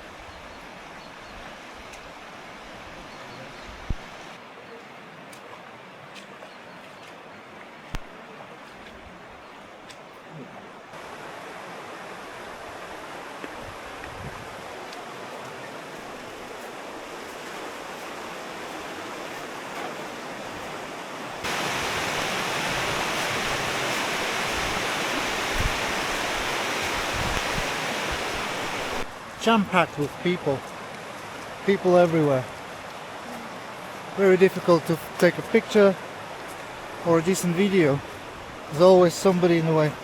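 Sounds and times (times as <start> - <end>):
river water rushing: 0.0 - 6.4, 7.1 - 40.0.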